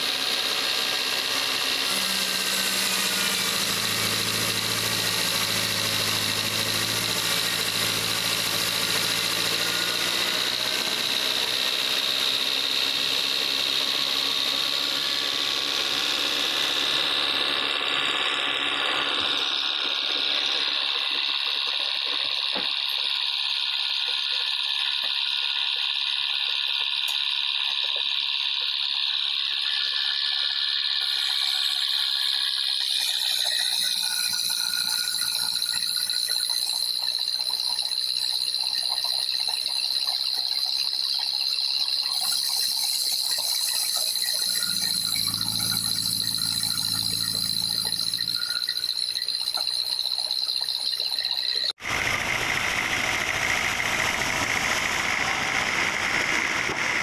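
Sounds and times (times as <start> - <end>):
saw cutting log rushing hiss: 0.0 - 50.7, 51.6 - 57.0
band saw blade whining: 0.0 - 57.0.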